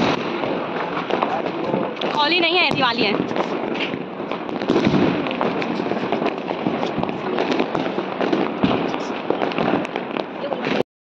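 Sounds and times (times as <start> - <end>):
firecrackers crackling and popping: 0.0 - 10.8.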